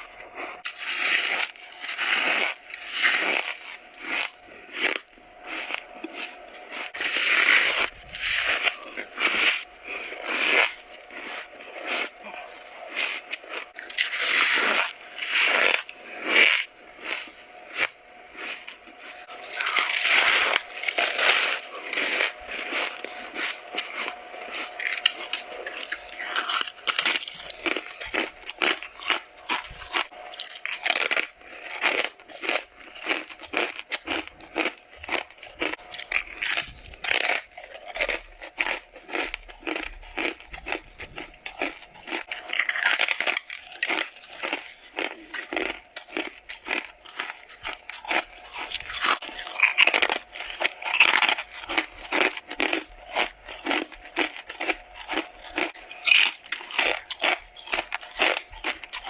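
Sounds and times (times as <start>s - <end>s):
crisp chewing crunches: 0.0s - 59.0s.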